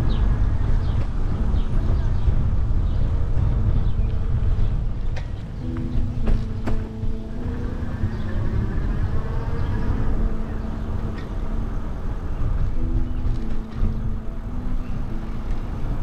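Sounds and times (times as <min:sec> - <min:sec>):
engine hum: 0:00.0 - 0:16.0
traffic rumble: 0:00.0 - 0:16.0.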